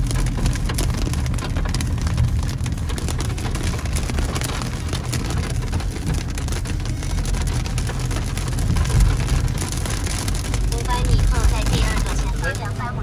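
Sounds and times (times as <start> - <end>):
car driving on wet road: 0.0 - 13.0
rain tapping on car roof: 0.0 - 13.0.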